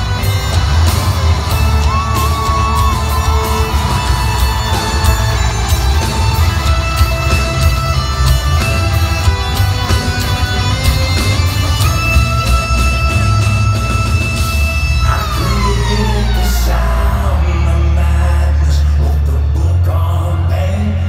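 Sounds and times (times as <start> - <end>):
distorted electric guitar lead: 0.0 - 21.0
live hard rock music: 0.0 - 21.0.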